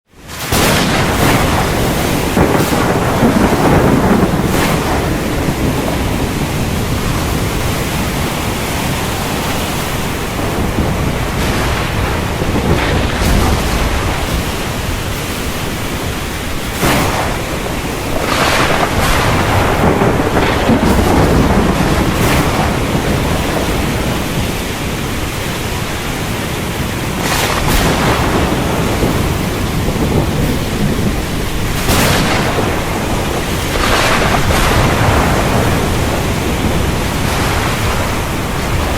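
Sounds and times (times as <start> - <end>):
rain hissing: 0.1 - 38.9
thunder cracks and rumbles: 0.2 - 38.9.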